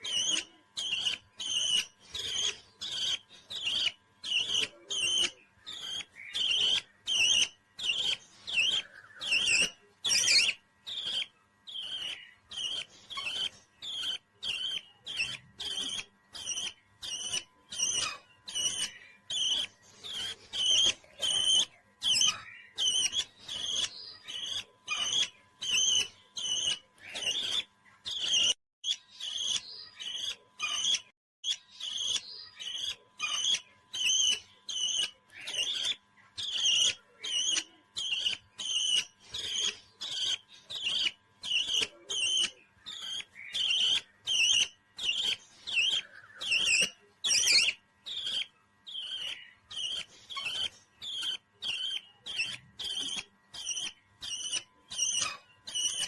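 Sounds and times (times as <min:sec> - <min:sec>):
parrot chirping: 0:00.0 - 0:56.0.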